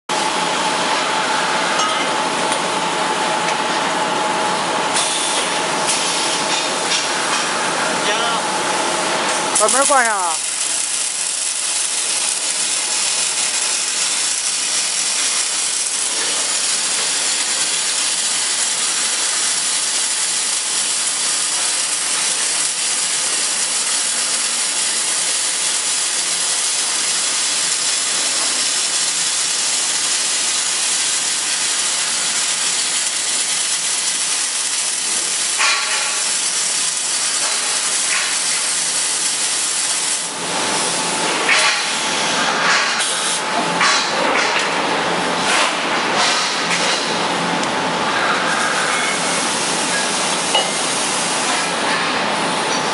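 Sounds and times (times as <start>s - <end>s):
welding arc hissing: 4.8s - 52.9s.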